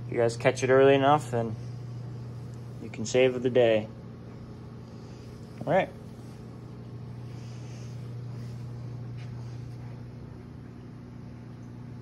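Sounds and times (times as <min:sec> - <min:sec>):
aquarium equipment humming: 0:00.0 - 0:12.0.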